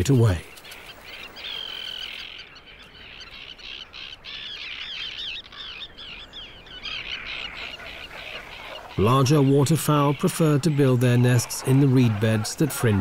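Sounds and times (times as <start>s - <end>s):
terns calling: 0.0s - 13.0s.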